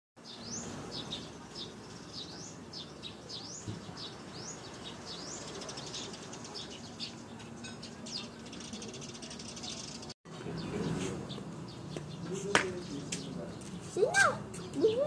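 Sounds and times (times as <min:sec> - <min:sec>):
bird chirping: 0:00.2 - 0:15.0
steady outdoor hiss: 0:00.2 - 0:15.0.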